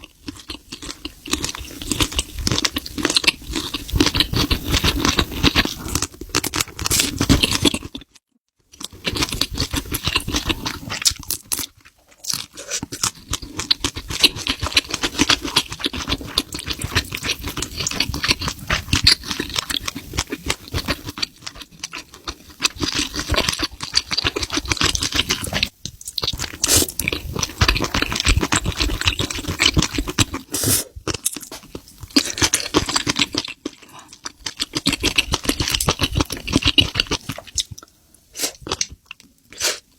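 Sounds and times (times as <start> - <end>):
chewing and crunching seafood: 0.0 - 39.9.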